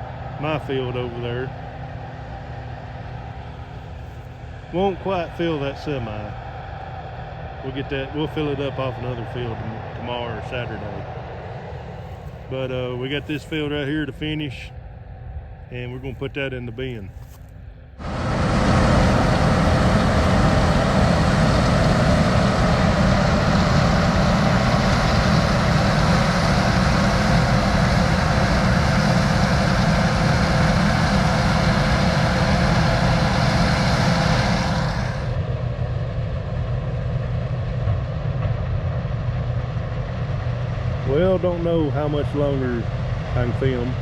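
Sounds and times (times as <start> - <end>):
diesel engine running: 0.0 - 17.4, 18.0 - 44.0.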